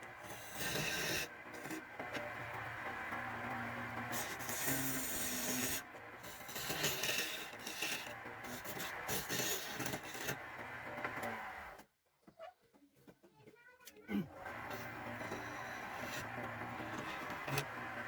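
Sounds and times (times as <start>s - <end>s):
tool rasping wood: 0.0s - 11.6s, 14.5s - 18.0s.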